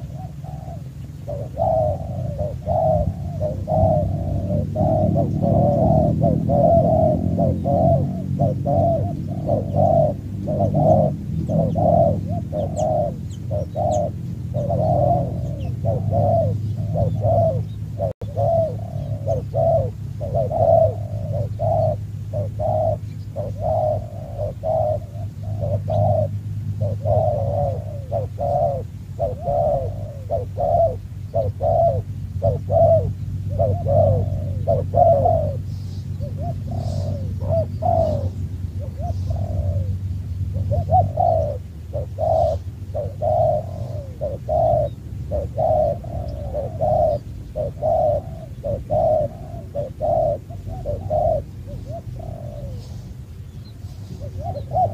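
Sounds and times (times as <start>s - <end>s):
doves cooing: 0.0s - 54.9s
steady low rumble: 0.0s - 54.9s.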